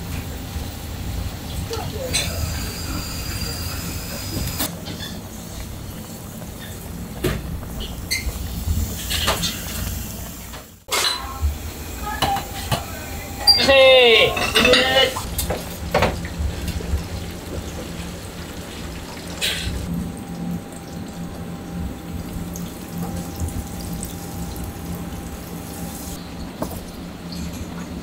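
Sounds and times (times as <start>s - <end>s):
low constant hum: 0.0s - 28.0s.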